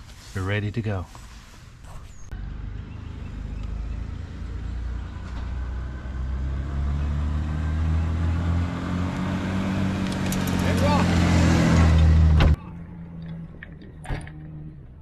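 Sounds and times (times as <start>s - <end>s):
motorcycle engine pulling away: 2.4s - 15.0s.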